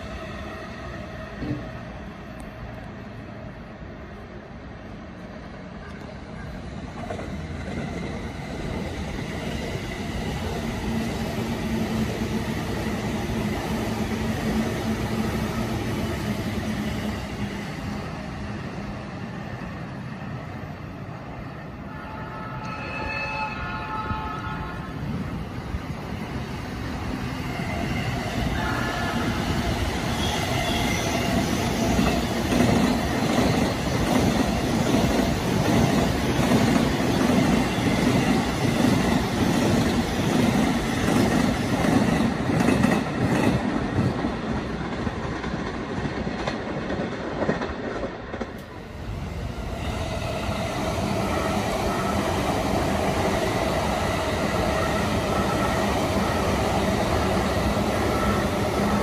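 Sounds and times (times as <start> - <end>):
train hum with faint whine: 0.0 - 59.0.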